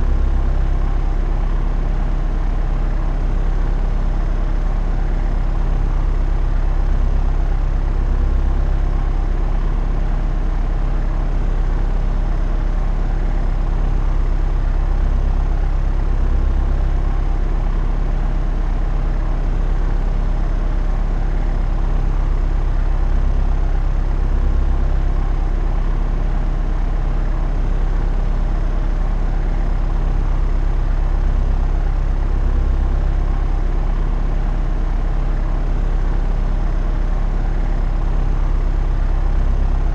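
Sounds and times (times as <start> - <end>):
propeller aircraft drone: 0.0 - 39.9.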